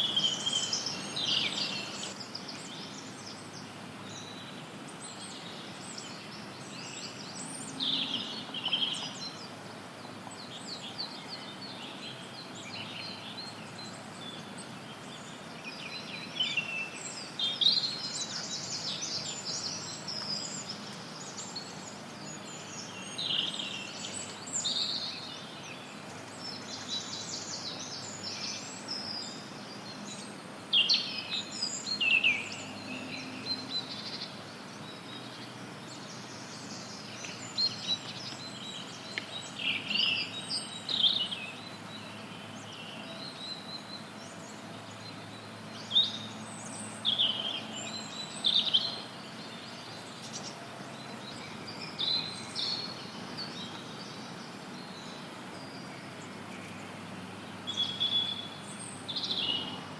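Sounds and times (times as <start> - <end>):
songbirds chirping and trilling: 0.0 - 59.9
white noise hiss: 0.0 - 59.9.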